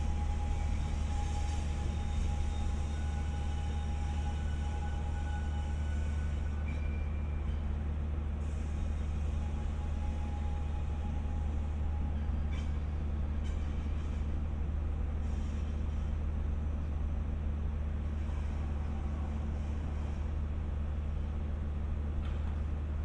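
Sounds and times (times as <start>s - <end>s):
train diesel engine idling: 0.0s - 23.0s.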